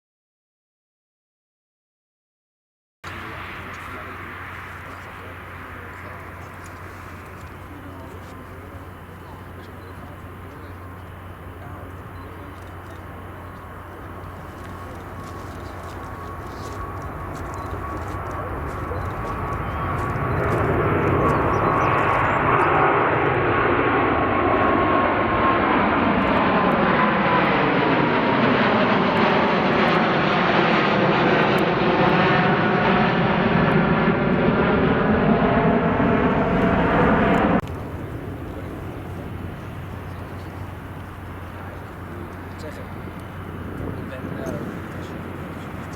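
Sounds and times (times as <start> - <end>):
jet engines roaring: 3.0 - 45.9.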